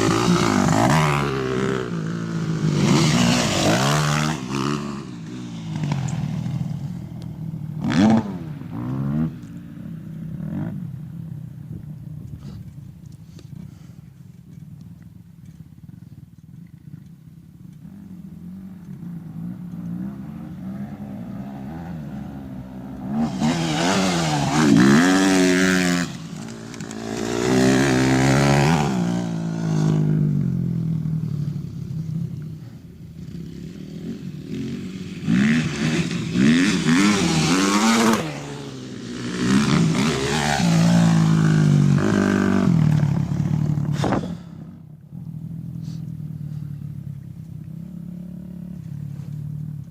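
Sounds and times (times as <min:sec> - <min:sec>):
dirt bike engines revving: 0:00.0 - 0:49.9.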